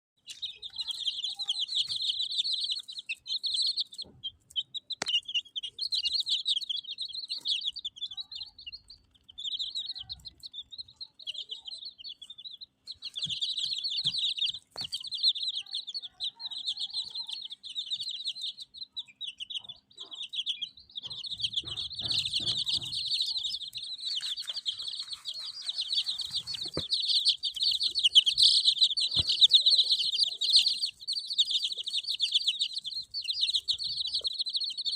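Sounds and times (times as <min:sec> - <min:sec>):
baby chicks peeping: 0:00.2 - 0:34.9.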